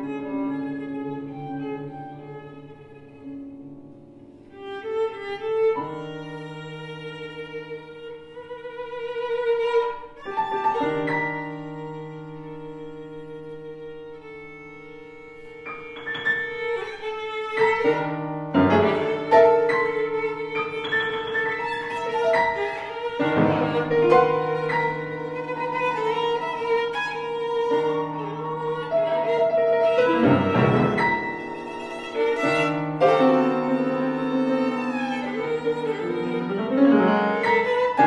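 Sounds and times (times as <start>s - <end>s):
piano chords: 0.0s - 38.0s
violin playing: 0.0s - 38.0s.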